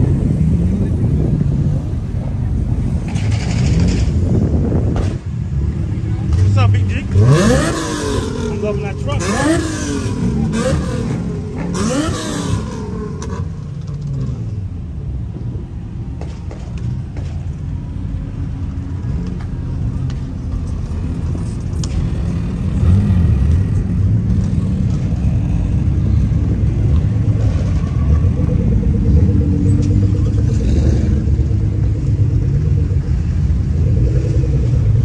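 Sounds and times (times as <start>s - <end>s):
car engines rumbling: 0.0s - 35.0s.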